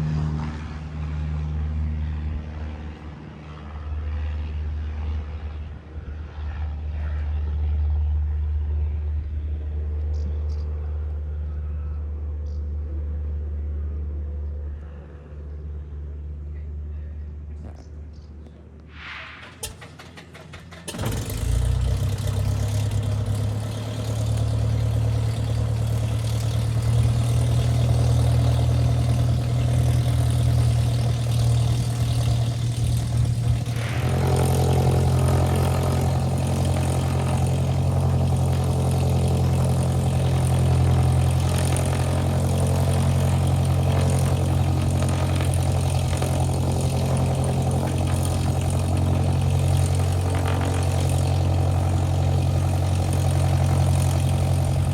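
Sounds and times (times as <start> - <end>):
propeller aircraft engine idling: 0.0 - 54.9.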